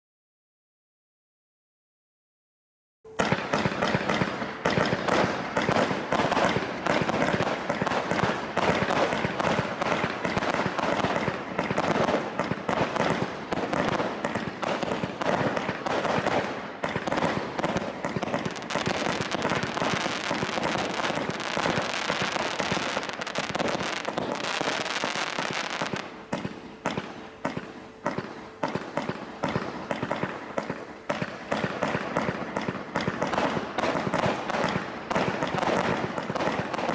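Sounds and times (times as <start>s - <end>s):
firework barrage launches and bursts: 3.2s - 36.9s.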